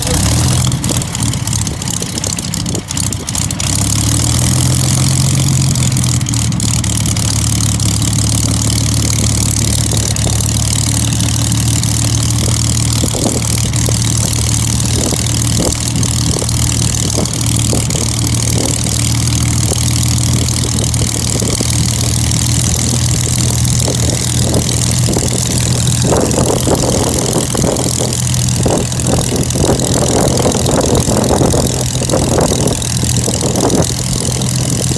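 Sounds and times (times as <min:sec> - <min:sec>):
piston engine idling: 0:00.0 - 0:34.9.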